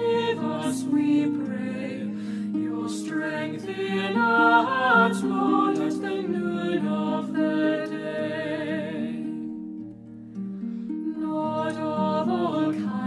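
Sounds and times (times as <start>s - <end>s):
voices singing over held chords: 0.0s - 9.8s, 10.8s - 13.0s.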